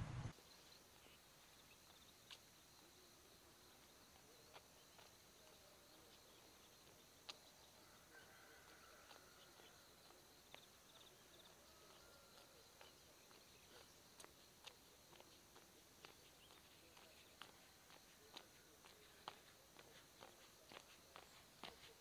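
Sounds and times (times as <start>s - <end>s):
faint chirps: 0.3s - 22.0s.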